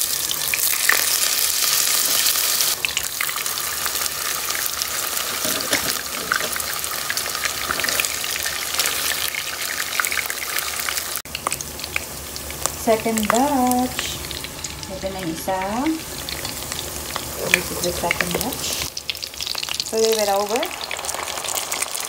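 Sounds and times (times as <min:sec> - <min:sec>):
patties sizzling in hot oil: 0:00.0 - 0:22.0.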